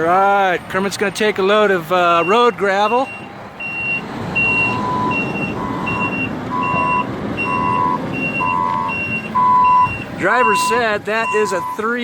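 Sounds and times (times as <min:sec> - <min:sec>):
heavy equipment engine: 0:00.0 - 0:12.0
high-pitched reversing beep: 0:02.2 - 0:11.9
lower-pitched reversing beep: 0:02.2 - 0:11.9.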